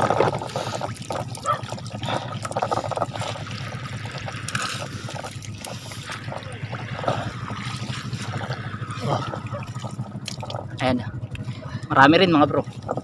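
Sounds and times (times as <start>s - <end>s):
steady low hum: 0.0s - 13.0s
water trickling and splashing: 0.0s - 13.0s.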